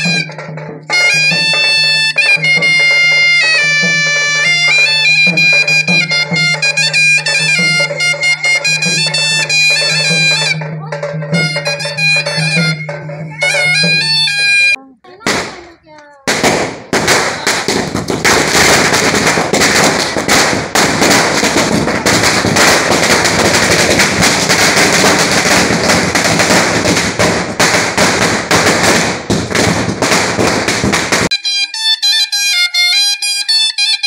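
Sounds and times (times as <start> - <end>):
music with stepping melody: 0.0 - 14.8, 21.4 - 34.0
firecrackers crackling: 0.0 - 31.4.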